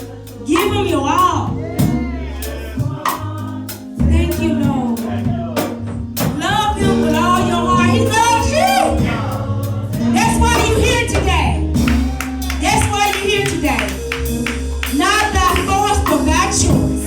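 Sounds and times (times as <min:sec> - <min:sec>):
bass line: 0:00.0 - 0:17.0
gospel singing: 0:00.0 - 0:17.0
steady drum beat: 0:00.0 - 0:17.0.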